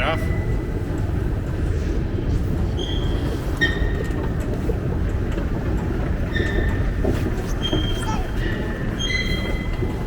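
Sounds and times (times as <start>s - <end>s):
subway train rumble: 0.0s - 10.0s.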